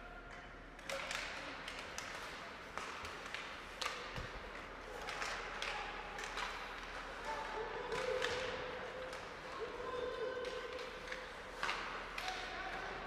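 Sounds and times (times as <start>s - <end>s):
hockey sticks and puck clacking: 0.2s - 13.0s.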